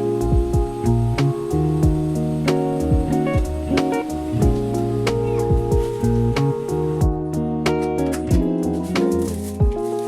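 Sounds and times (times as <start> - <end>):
drum beat with deep kicks: 0.0 - 10.0
guitar tune: 0.0 - 10.0.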